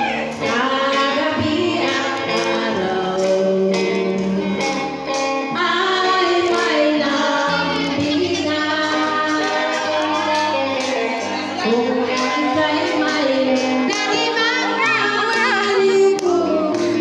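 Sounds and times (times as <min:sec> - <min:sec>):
group of voices singing: 0:00.0 - 0:17.0.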